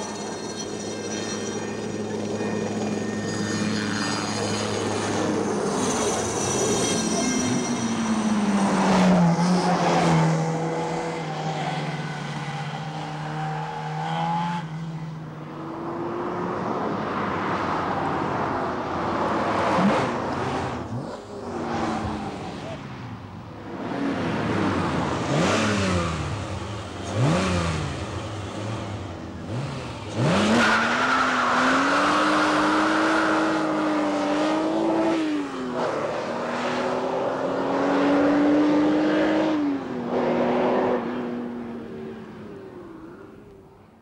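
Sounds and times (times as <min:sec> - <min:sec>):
racing car engines revving: 0:00.0 - 0:43.6.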